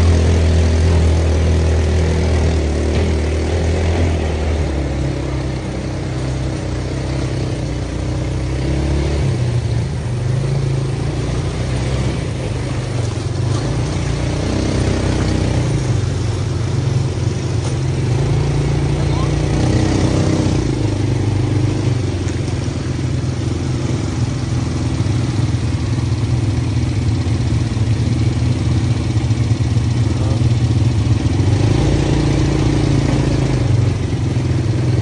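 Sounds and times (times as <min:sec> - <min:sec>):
quad bike engines running: 0:00.0 - 0:35.0.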